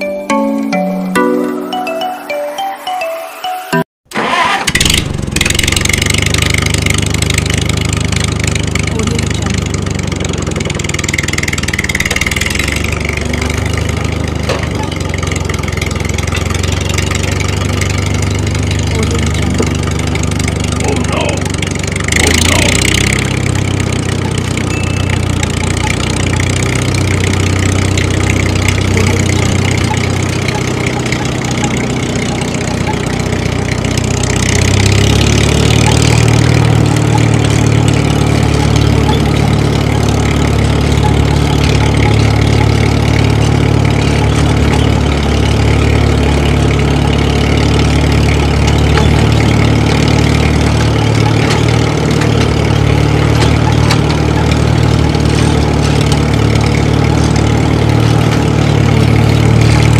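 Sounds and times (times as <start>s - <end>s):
tractor engine idling: 4.1s - 59.9s.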